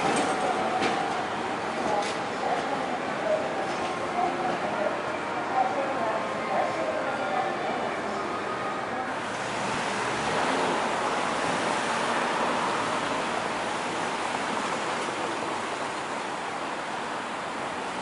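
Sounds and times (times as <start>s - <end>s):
city street traffic rush: 0.0s - 18.0s.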